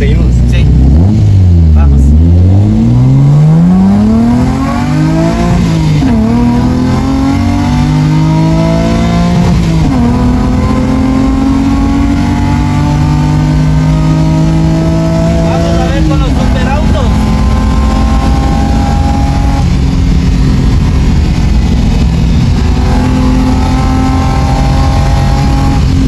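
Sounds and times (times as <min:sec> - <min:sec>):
sports car engine accelerating: 0:00.0 - 0:26.0.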